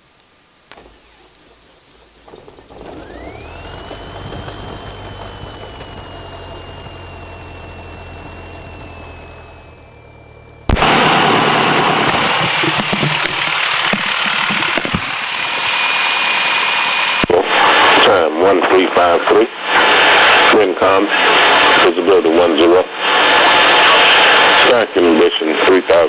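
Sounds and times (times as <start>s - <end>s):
aircraft engine idling with whine: 0.0s - 26.0s.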